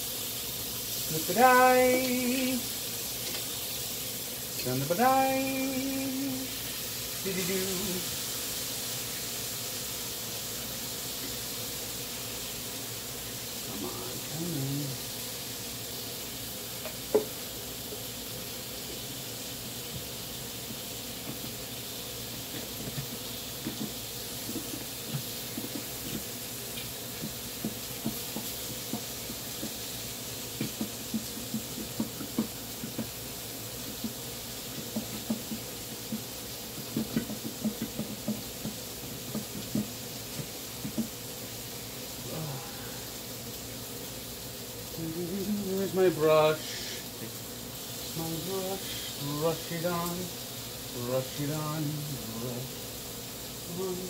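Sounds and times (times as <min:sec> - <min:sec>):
chicken sizzling on grill: 0:00.0 - 0:54.0.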